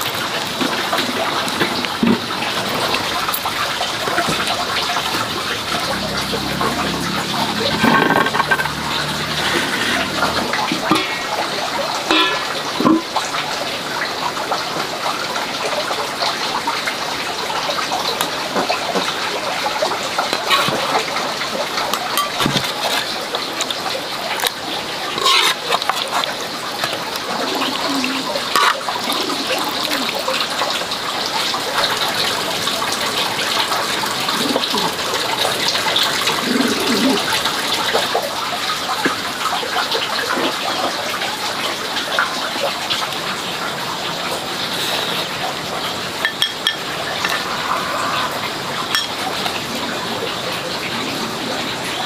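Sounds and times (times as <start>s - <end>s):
running water rushing: 0.0s - 52.0s.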